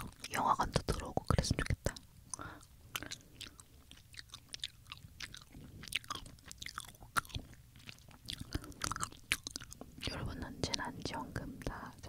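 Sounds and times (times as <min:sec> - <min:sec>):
gummy sweets being chewed: 0:00.0 - 0:12.0.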